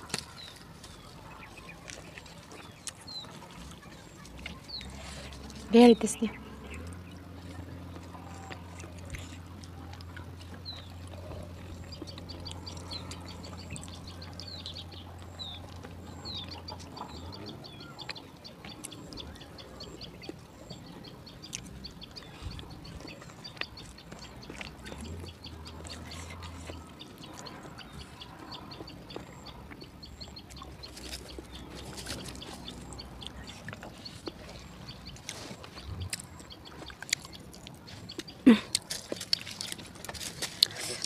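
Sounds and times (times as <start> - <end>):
birds chirping: 0.0 - 41.0
chewing and mouth smacking: 0.0 - 41.0.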